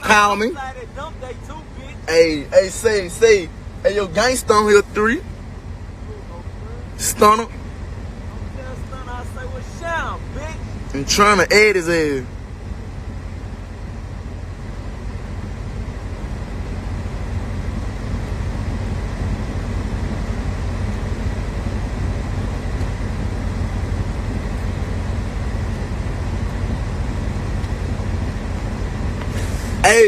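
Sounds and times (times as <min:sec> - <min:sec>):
car cabin rumble: 0:00.0 - 0:30.0.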